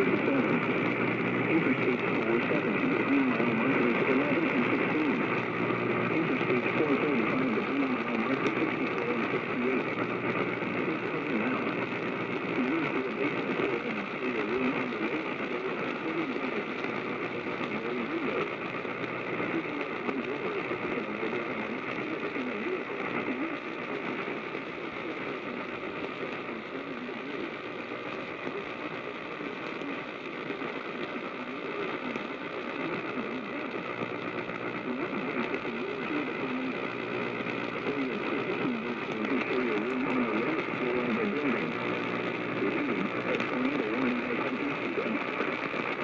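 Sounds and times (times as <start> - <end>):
muffled radio voice: 0.0 - 46.0
steady noise: 0.0 - 46.0.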